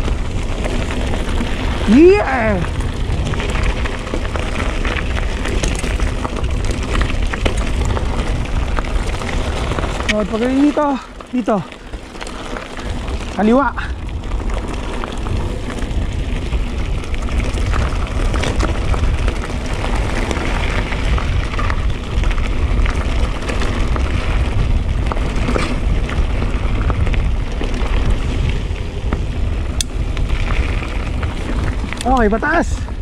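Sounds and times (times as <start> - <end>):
bike rattles and clicks: 0.0 - 33.0
tyres crunching over gravel: 0.0 - 33.0
wind rumble on microphone: 0.0 - 33.0.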